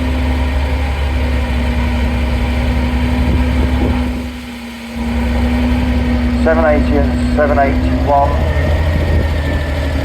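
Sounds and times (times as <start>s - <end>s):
vehicle engines humming: 0.0s - 10.0s.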